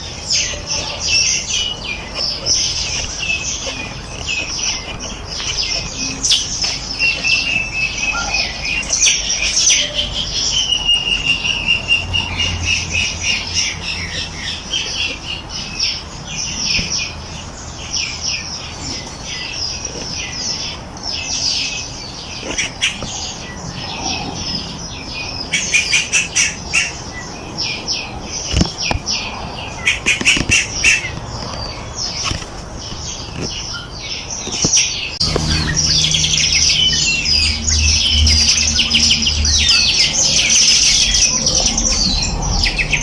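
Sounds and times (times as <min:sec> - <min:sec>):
songbirds chirping and trilling: 0:00.0 - 0:43.0.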